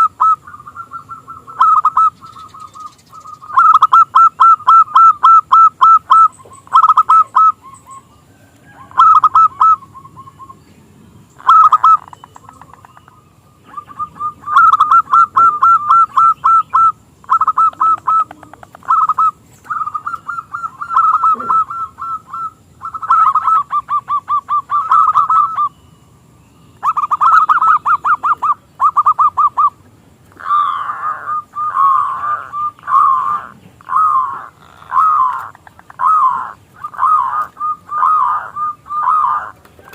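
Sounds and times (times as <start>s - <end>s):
dove cooing: 0.0s - 10.6s, 11.4s - 25.8s, 26.8s - 39.9s.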